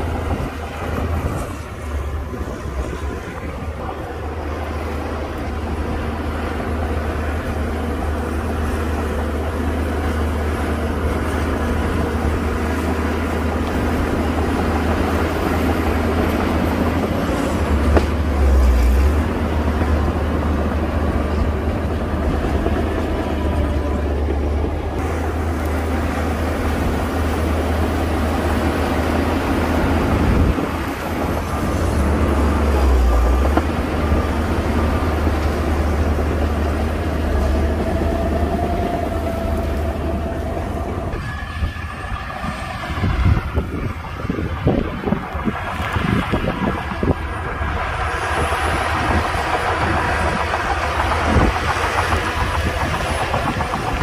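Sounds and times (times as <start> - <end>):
bulldozer diesel engine rumbling: 0.0 - 54.0.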